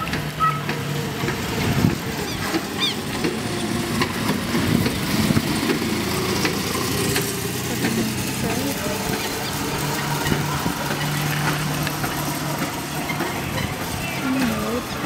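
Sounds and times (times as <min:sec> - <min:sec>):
small car engine running: 0:00.0 - 0:15.0.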